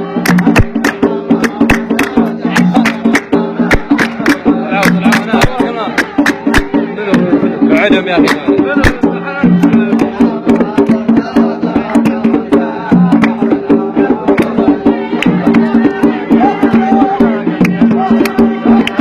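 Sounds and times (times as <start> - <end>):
hand drums rhythm: 0.0 - 19.0.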